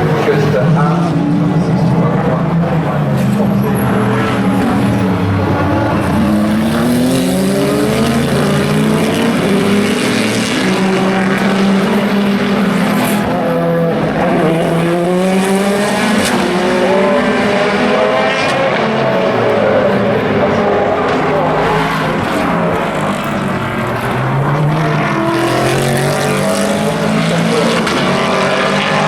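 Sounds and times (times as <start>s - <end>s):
racing car engines accelerating: 0.0s - 29.0s.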